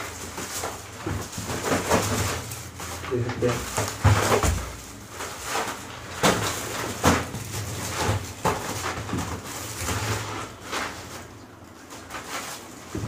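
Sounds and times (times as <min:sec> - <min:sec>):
cardboard boxes knocking: 0:00.0 - 0:11.2
cardboard rustling: 0:00.0 - 0:13.0.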